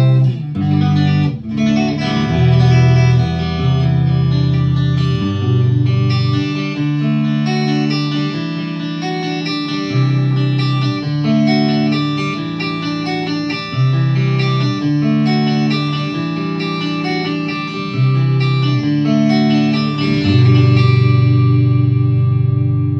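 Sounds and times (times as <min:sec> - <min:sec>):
electric guitar melody: 0:00.0 - 0:22.9.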